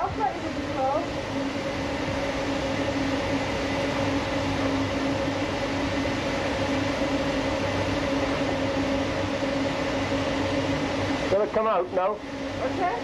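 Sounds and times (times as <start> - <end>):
machinery mechanical drone: 0.0 - 13.0.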